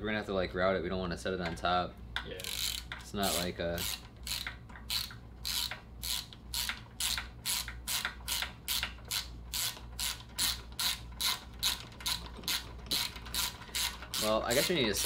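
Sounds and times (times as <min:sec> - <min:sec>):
ratchet wrench clicking: 0:02.4 - 0:15.0.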